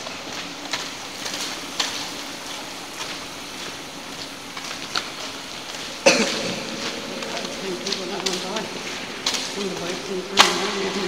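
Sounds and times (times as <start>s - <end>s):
footsteps scuffing on wet concrete: 0.0s - 11.0s
steady hiss: 0.0s - 11.0s.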